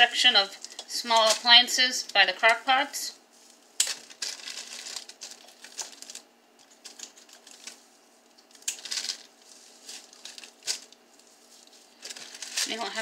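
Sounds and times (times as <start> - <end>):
plastic liner crinkling: 0.6 - 2.2, 3.3 - 13.0.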